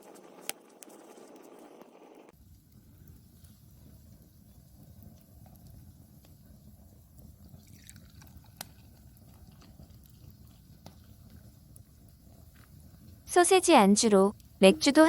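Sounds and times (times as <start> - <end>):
wood fire crackling: 2.3 - 15.0.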